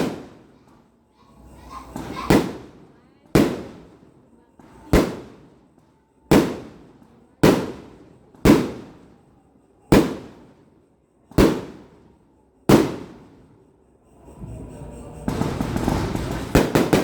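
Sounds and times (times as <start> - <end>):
fireworks bangs echoing: 0.0 - 9.3, 9.9 - 10.7, 11.3 - 13.6, 14.4 - 17.0.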